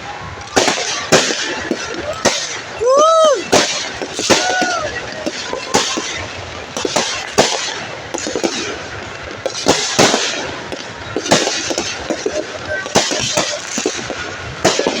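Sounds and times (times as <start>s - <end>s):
firecrackers banging and crackling: 0.0s - 15.0s.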